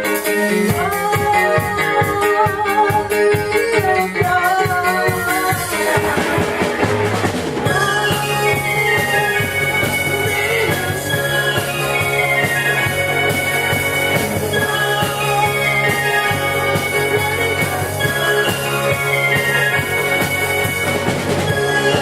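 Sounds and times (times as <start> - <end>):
drum kit beating: 0.0 - 22.0
live band music: 0.0 - 22.0.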